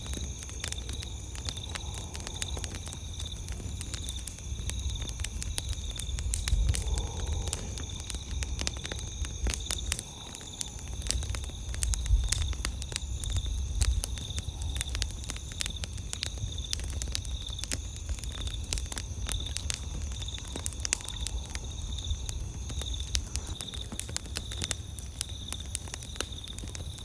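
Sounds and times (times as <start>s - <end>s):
campfire crackling and popping: 0.0s - 27.0s
night insects trilling: 0.0s - 27.0s.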